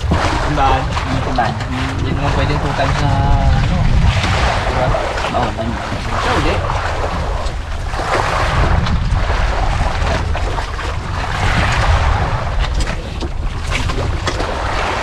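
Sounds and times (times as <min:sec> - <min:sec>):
sea water rushing: 0:00.0 - 0:15.0
wind buffeting microphone: 0:00.0 - 0:15.0.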